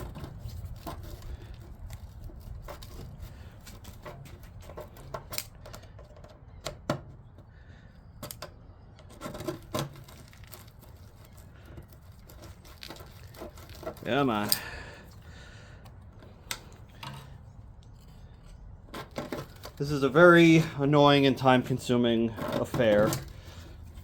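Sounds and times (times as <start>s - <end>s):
screwdriver clicking and scraping: 0.0s - 7.5s, 8.2s - 24.0s.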